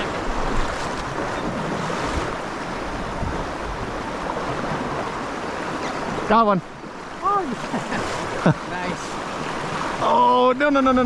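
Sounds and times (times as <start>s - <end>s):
river rushing over cobbles: 0.0s - 11.0s.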